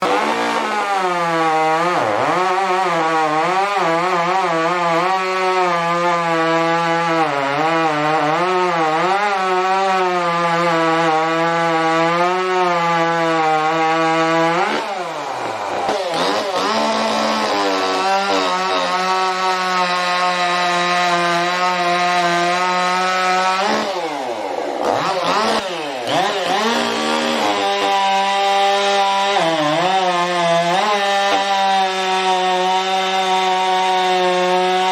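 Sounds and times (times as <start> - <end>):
chainsaws cutting wood: 0.0 - 34.9.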